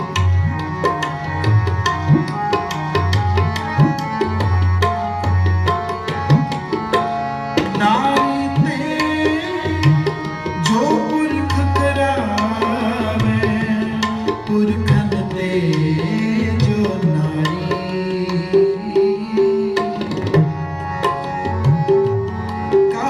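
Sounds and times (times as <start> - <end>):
tabla playing fast strokes: 0.0 - 23.0.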